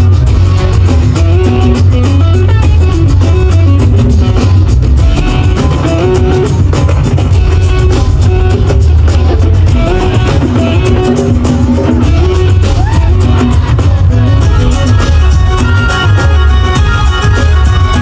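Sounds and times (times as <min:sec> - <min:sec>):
loud instrumental rock music: 0:00.0 - 0:18.0.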